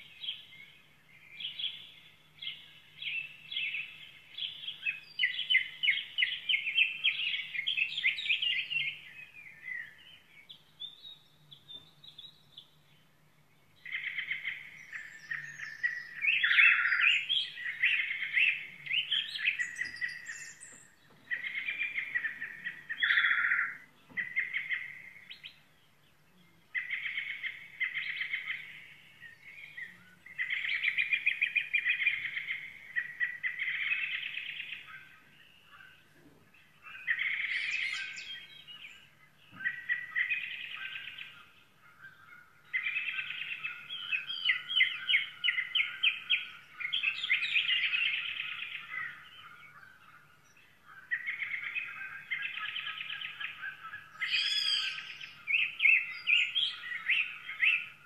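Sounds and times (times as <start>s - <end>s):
songbird chattering song: 0.0s - 58.0s.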